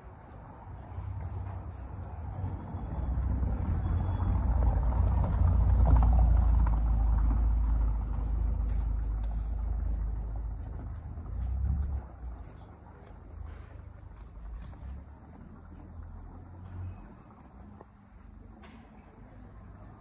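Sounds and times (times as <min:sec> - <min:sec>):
low street rumble: 0:00.0 - 0:20.0.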